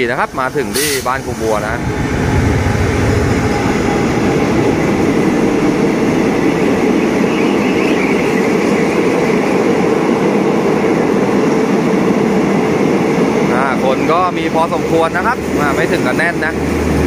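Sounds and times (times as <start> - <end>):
diesel locomotive running past: 0.0 - 17.0
wheels rumbling on rails: 0.0 - 17.0.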